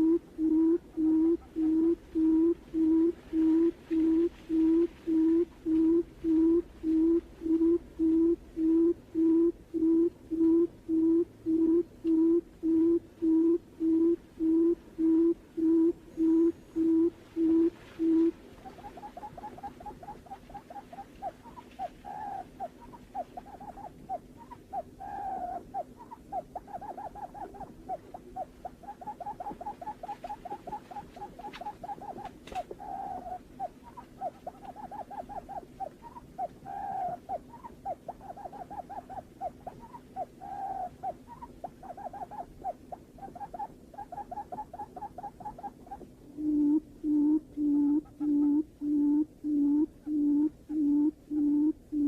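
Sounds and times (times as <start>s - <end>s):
bird low hooting call: 0.0s - 52.0s.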